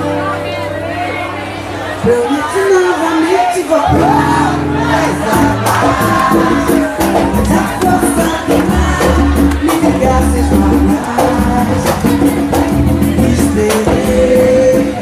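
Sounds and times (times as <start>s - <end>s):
live band playing: 0.0s - 15.0s
person singing: 2.1s - 15.0s.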